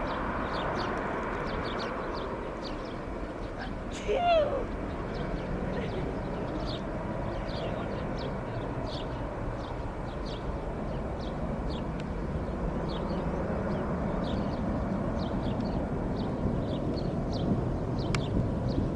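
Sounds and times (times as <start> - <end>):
distant jet engines rumbling: 0.0 - 18.9
small birds chirping: 0.0 - 18.9.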